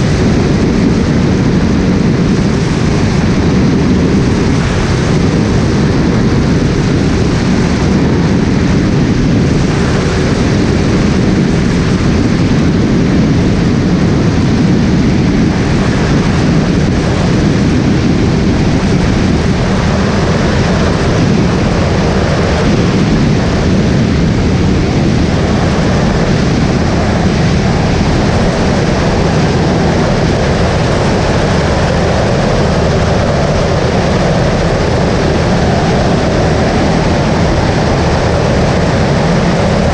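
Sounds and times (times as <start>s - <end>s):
light aircraft engine drone: 0.0s - 39.9s
rush of airflow: 0.0s - 39.9s.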